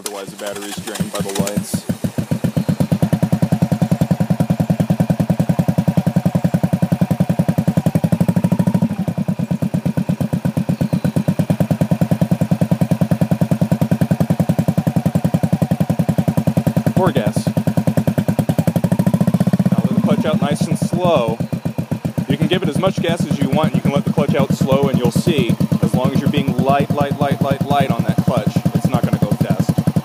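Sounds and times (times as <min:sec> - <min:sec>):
small motorcycle engine idling: 0:00.0 - 0:30.0.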